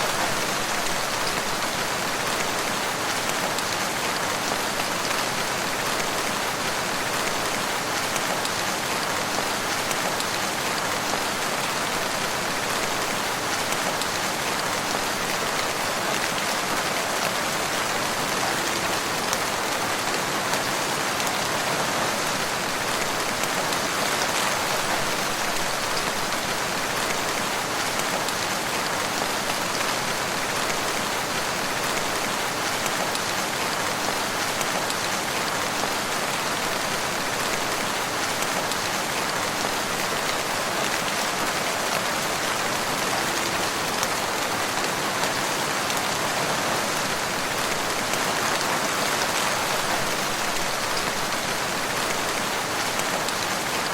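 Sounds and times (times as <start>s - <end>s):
rain pattering on leaves: 0.0s - 53.9s.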